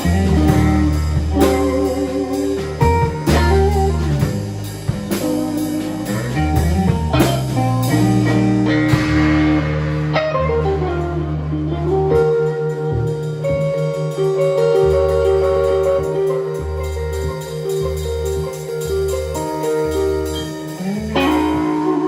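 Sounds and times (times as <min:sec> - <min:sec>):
blues-rock trio playing: 0:00.0 - 0:22.0
electric guitar lead: 0:00.0 - 0:22.0.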